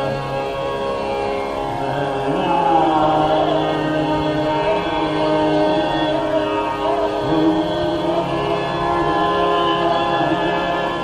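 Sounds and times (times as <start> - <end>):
classical music with drone: 0.0 - 11.0.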